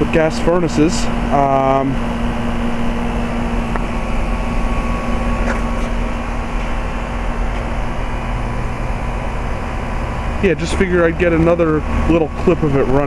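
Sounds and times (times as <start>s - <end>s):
heat pump air rushing: 0.0s - 13.0s
low hum: 0.0s - 13.0s.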